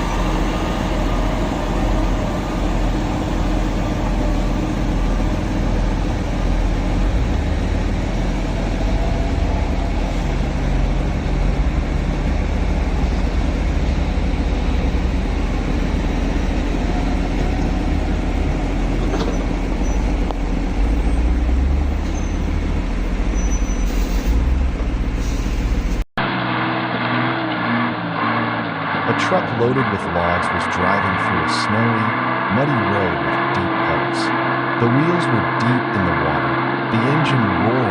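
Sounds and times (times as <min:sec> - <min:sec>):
another truck engine: 0:00.0 - 0:37.9
truck diesel engine running: 0:00.0 - 0:37.9.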